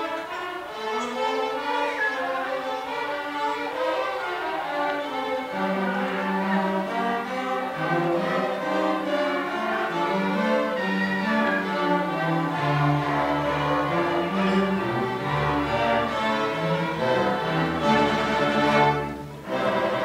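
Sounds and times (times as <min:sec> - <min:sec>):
orchestra playing bowed strings: 0:00.0 - 0:20.0.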